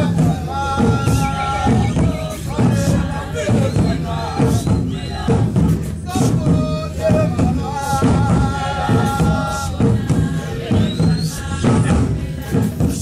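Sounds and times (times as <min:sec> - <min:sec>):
drum beats: 0:00.0 - 0:13.0
group singing: 0:00.0 - 0:13.0.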